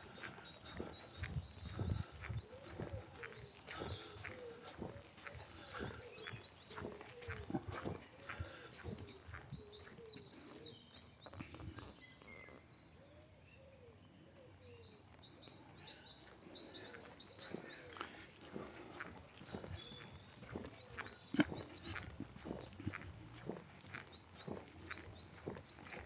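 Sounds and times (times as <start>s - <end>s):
footsteps on a path: 0.0s - 12.6s, 14.9s - 26.0s
lower bird calls: 0.0s - 26.0s
small birds chirping: 0.0s - 26.0s.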